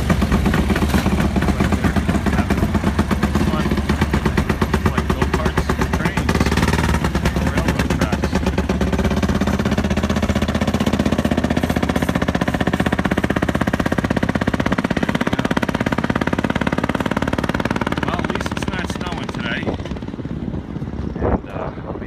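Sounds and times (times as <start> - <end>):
rail speeder engines puttering: 0.0 - 22.0.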